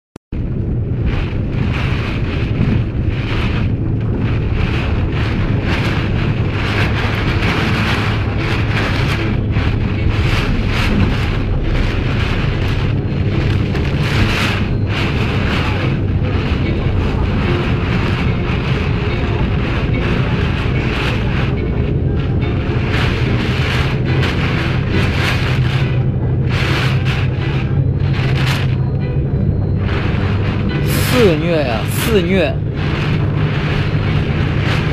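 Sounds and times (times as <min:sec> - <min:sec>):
driving rain: 0:00.3 - 0:34.9
low rumble: 0:00.3 - 0:34.9
storm wind gusting: 0:00.3 - 0:34.9.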